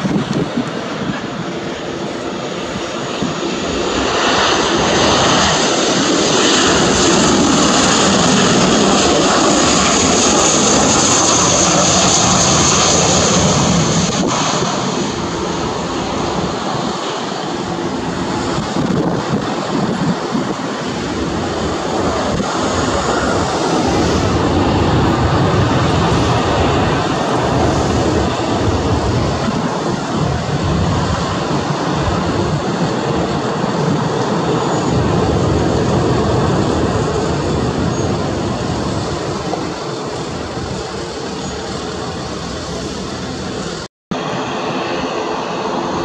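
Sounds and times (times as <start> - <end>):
jet engines rushing: 0.0 - 46.0.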